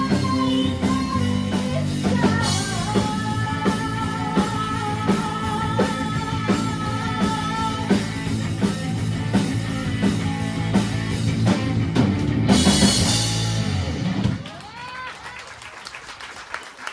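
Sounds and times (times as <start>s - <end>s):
drum kit beat: 0.0s - 14.4s
rock band playing: 0.0s - 14.6s.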